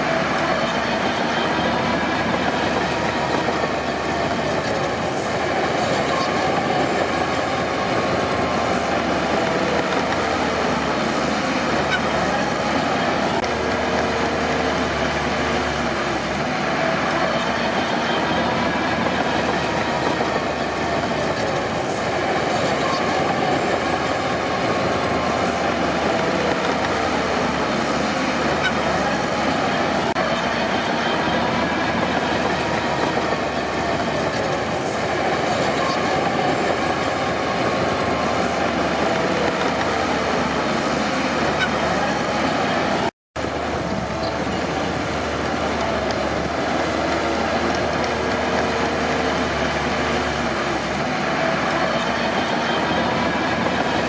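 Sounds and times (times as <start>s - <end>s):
bulldozer diesel engine under load: 0.0s - 54.0s
steel tracks clanking and squealing: 0.0s - 54.0s.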